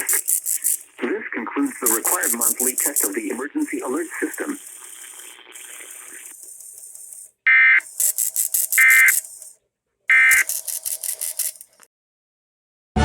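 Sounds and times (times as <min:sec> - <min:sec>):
harsh digital data bursts: 0:00.0 - 0:11.8
faint rapid fluttering: 0:00.0 - 0:11.9.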